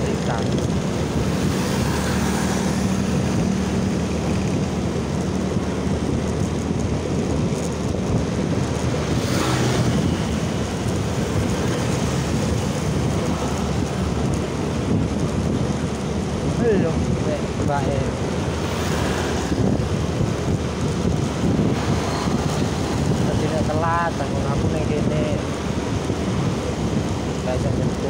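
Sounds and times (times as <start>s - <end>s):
scooter engine humming: 0.0s - 23.4s
wind buffeting microphone: 0.0s - 28.0s.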